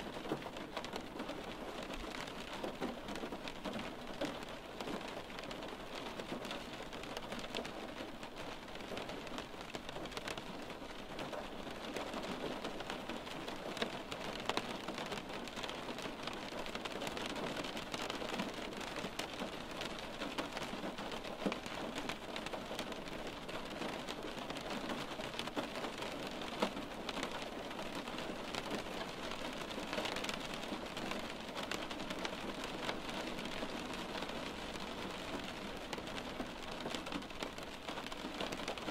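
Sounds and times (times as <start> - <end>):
rain on a window pane: 0.0 - 38.9.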